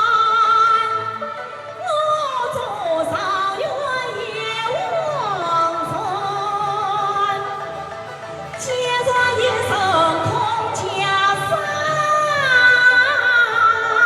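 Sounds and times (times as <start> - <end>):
person singing opera: 0.0 - 14.0.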